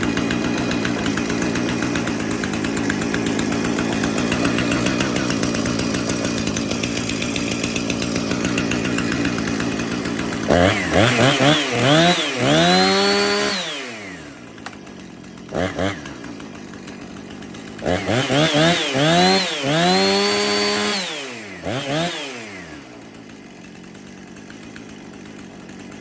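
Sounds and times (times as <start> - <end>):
chainsaw idling and revving: 0.0 - 26.0.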